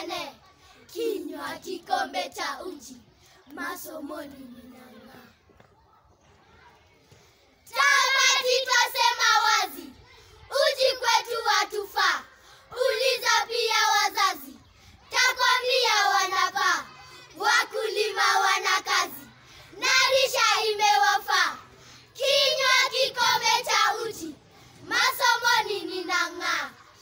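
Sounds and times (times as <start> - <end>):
children chanting in unison: 0.0 - 5.3, 7.7 - 27.0.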